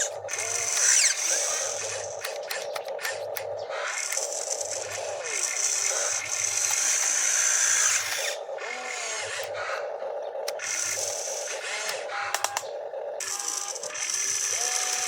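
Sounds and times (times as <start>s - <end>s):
sharp clicks: 0.0s - 8.3s, 9.3s - 9.7s, 10.4s - 14.4s
small electric motors whirring: 0.0s - 15.0s.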